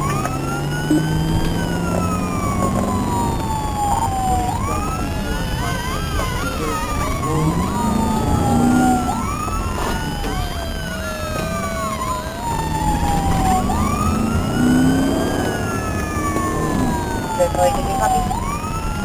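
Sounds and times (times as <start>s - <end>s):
car engine and road noise: 0.0s - 19.0s
police siren wailing: 0.0s - 19.0s.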